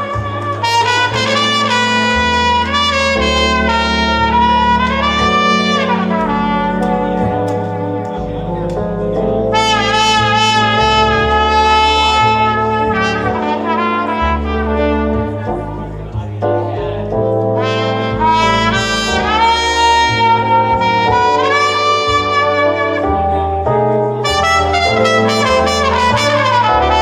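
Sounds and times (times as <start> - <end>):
trumpet solo: 0.0 - 16.1, 17.5 - 27.0
jazz band backing: 0.0 - 27.0.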